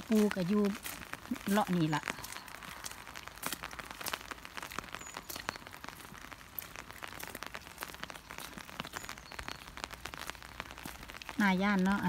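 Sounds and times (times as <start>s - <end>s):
raindrops hitting: 0.0s - 12.0s.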